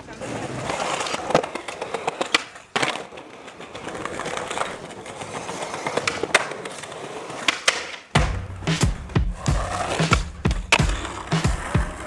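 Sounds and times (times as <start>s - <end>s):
skateboard wheels rolling on paving: 0.0s - 8.2s, 9.0s - 12.0s
skateboard clacks: 0.0s - 12.0s.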